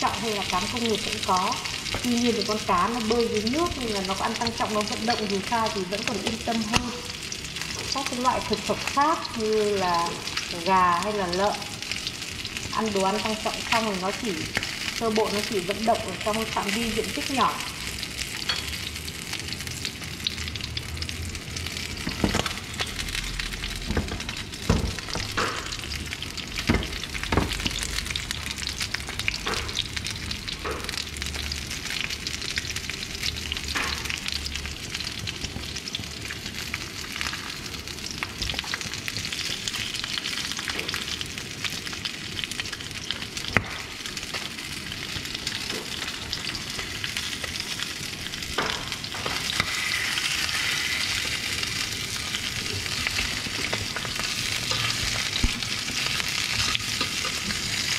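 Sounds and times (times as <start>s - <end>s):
fish sizzling in hot oil: 0.0s - 57.9s
oil popping and crackling: 0.0s - 57.9s.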